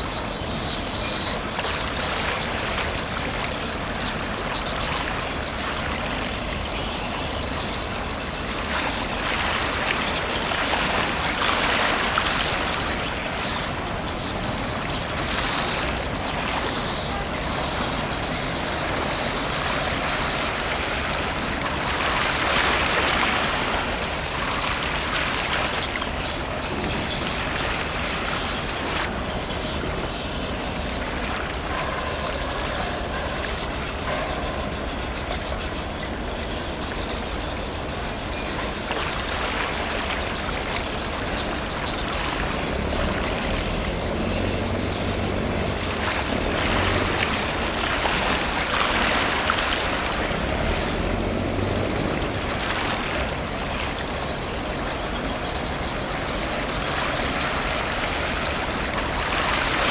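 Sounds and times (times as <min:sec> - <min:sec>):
low engine hum: 0:00.0 - 0:59.9
rushing water-like noise: 0:00.0 - 0:59.9.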